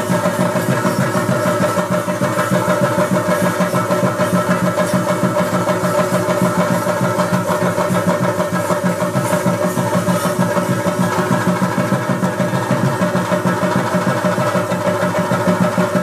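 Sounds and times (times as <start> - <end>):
drums beaten fast: 0.0 - 16.0.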